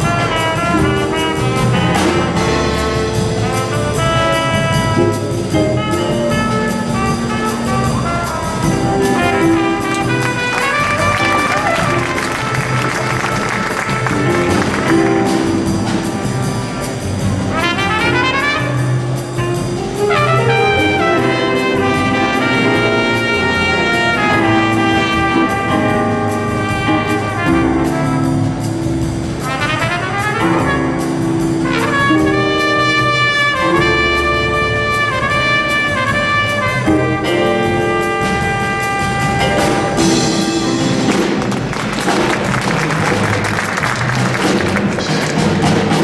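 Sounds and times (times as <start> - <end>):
jazz big band playing: 0.0 - 46.0.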